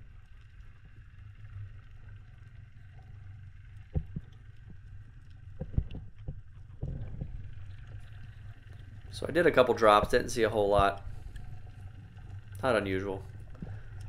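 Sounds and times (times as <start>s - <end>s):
underwater rumble of moving water: 0.0s - 14.0s.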